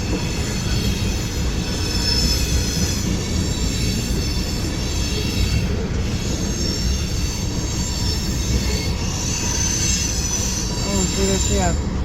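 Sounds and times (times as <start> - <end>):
train wheels rumbling on rail: 0.0 - 12.0
high-pitched wheel squeal: 0.1 - 11.8.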